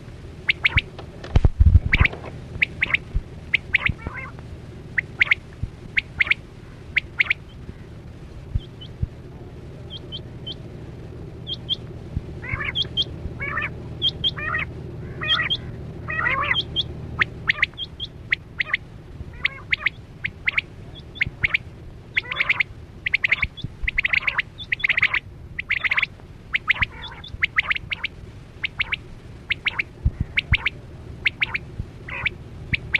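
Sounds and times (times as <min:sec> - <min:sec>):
quail calling: 0:00.0 - 0:01.0, 0:01.8 - 0:08.0, 0:08.6 - 0:09.1, 0:09.9 - 0:10.7, 0:11.4 - 0:32.9.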